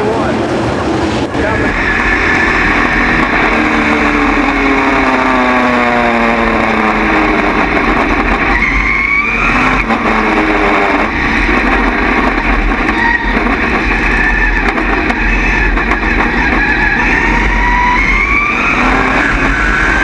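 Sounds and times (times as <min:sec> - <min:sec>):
race car engine: 0:00.0 - 0:20.0
wind noise: 0:00.4 - 0:20.0.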